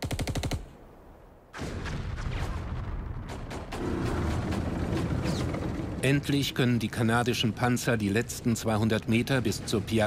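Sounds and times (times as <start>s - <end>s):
low rumbling battle din: 1.6s - 10.0s.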